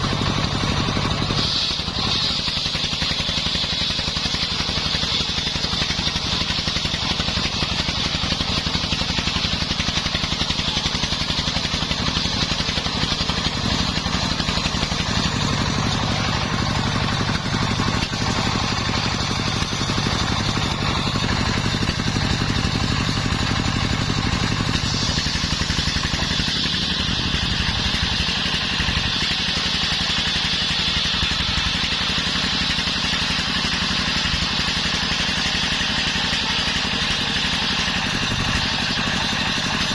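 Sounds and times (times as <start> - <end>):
saw blade whining through timber: 0.0 - 39.9
sawmill engine chugging: 0.0 - 39.9.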